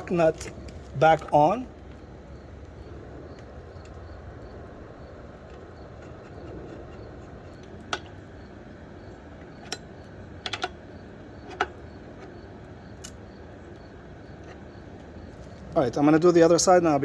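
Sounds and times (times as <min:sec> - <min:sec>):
faint background noise: 0:00.0 - 0:17.0.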